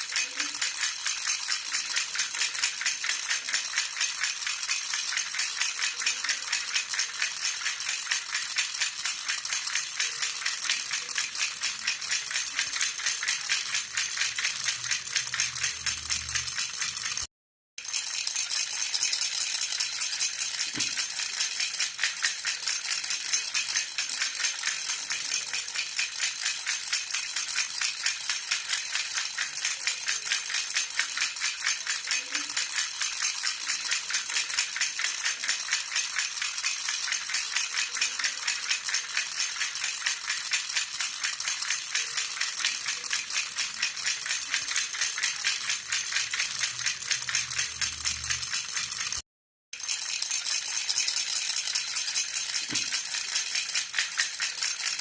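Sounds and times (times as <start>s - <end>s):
baby rattle jingling: 0.0s - 49.2s, 49.8s - 55.0s.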